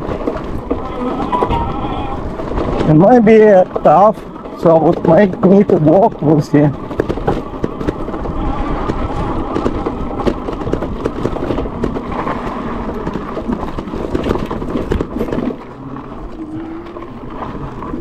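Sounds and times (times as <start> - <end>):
electric bike rumble: 0.0 - 18.0
tyres crunching over gravel: 0.0 - 18.0.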